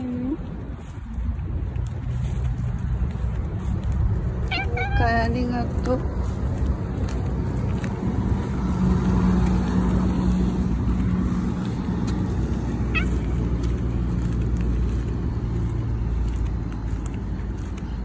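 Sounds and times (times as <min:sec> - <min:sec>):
vehicle engine running: 0:01.6 - 0:18.0.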